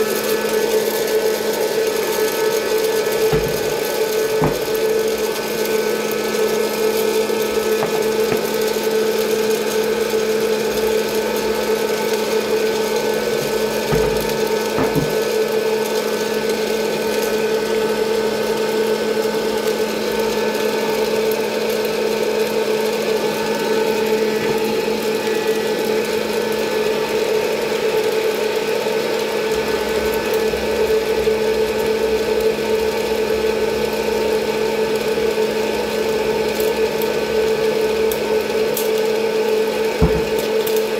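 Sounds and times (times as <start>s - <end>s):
popcorn popper fan humming: 0.0s - 40.9s.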